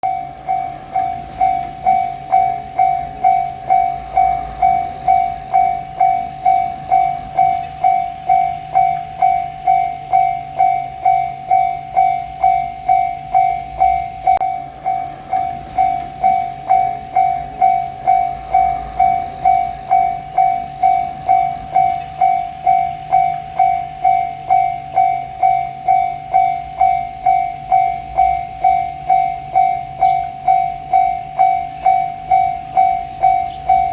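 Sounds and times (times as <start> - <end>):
level crossing warning bell: 0.0 - 33.9.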